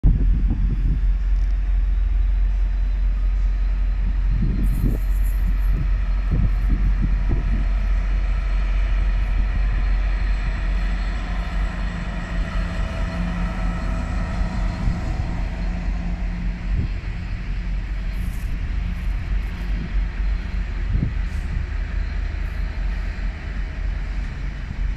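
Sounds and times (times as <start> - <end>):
wind buffeting microphone: 0.0 - 2.4, 3.7 - 24.9
diesel locomotive engine drone: 0.0 - 24.9.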